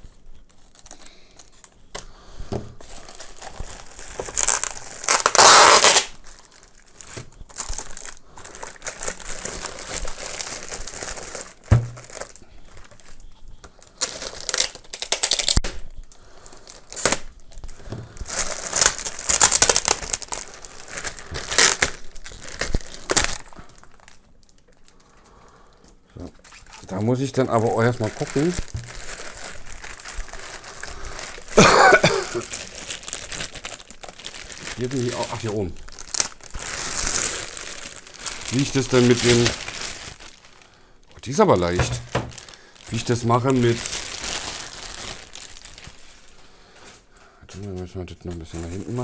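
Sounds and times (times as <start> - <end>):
plastic bag crinkling: 0.0 - 1.9, 2.8 - 49.0.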